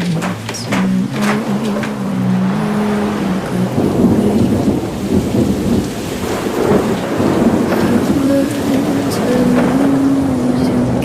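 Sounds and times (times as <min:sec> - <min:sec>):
rain: 0:00.0 - 0:11.0
thunder rumbling: 0:00.0 - 0:11.0.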